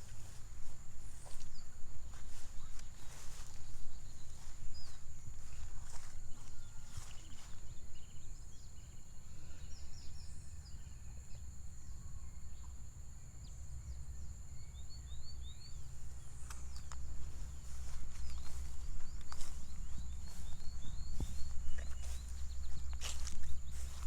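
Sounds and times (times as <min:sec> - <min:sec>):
birds chirping: 0:00.0 - 0:11.4, 0:13.4 - 0:24.0.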